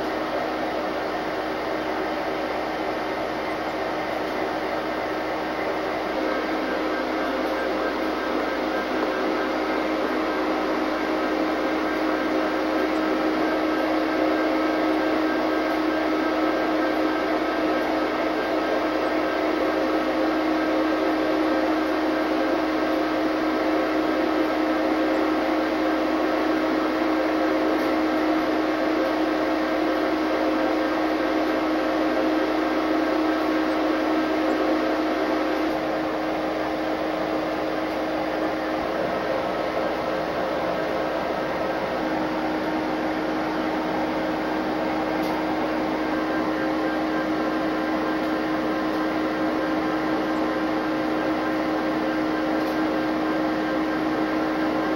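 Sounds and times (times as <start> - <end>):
locomotive machinery drone: 0.0 - 54.9.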